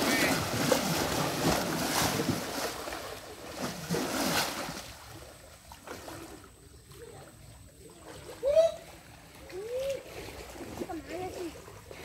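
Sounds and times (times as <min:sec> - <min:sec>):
water sloshing around wading legs: 0:00.0 - 0:12.0.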